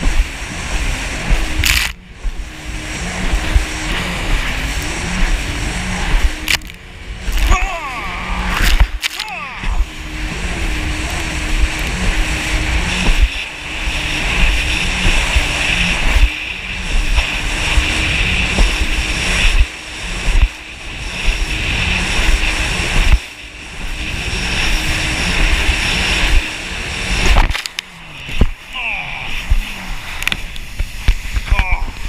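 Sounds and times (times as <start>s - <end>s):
jet ski engine running: 0.0s - 32.0s
wind rumble on microphone: 0.0s - 32.0s.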